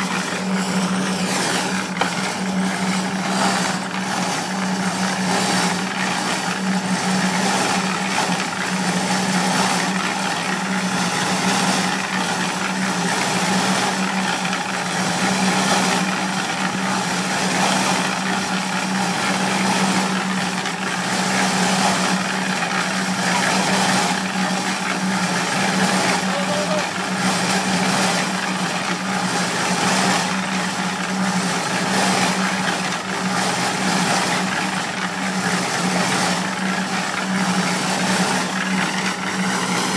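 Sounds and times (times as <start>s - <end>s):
mix churning in drum: 0.0s - 39.9s
mixer motor hum: 0.0s - 39.9s.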